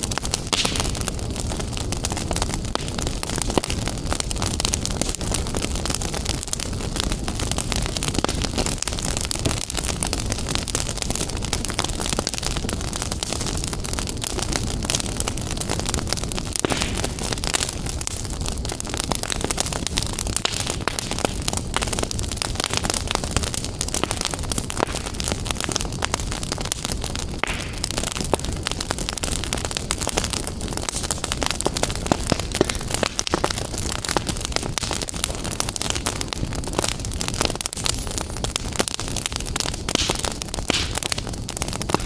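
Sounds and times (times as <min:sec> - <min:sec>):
fire crackling: 0:00.0 - 0:42.0
low rumble of burning: 0:00.0 - 0:42.0.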